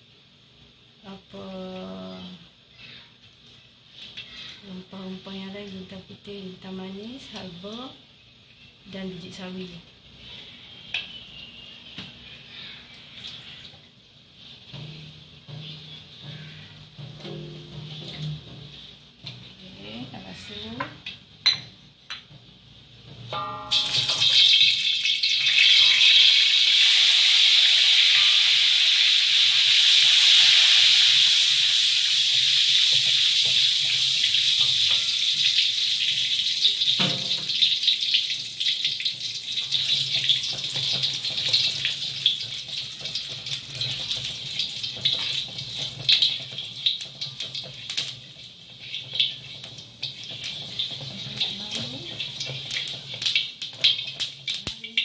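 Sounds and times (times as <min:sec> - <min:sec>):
spices sizzling in hot oil: 0:00.0 - 0:55.0.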